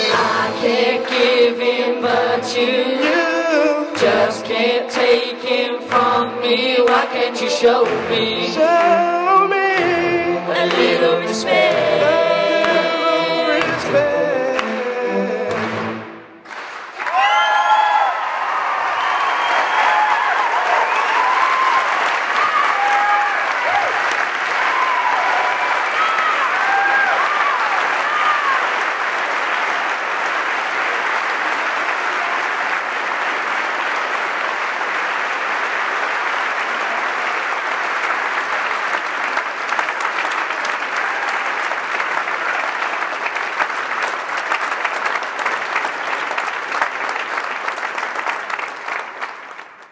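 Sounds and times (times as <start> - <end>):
audience applauding: 0.0 - 2.3, 6.8 - 14.8, 15.5 - 49.9.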